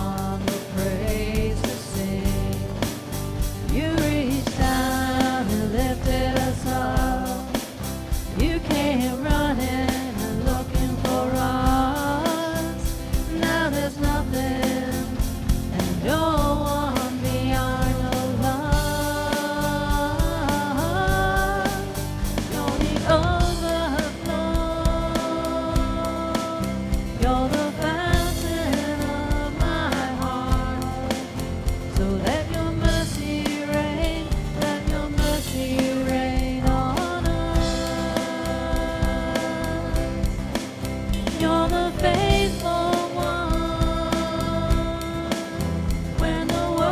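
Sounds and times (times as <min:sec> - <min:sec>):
voices singing: 0:00.0 - 0:46.9.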